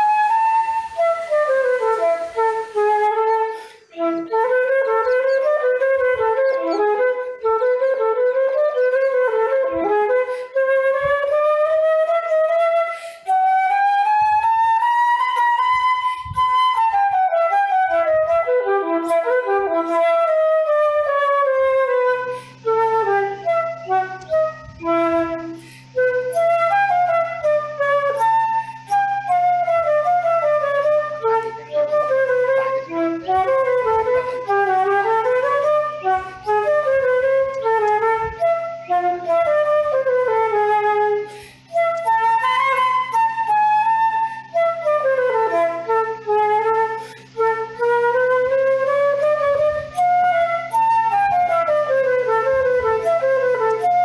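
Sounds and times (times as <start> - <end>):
flute melody: 0.0 - 54.0
steady low drone: 0.0 - 54.0.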